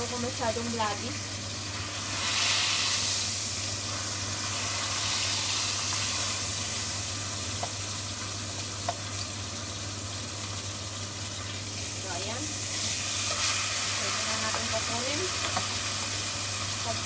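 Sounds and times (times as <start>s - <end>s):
steak sizzling in a frying pan: 0.0s - 17.0s.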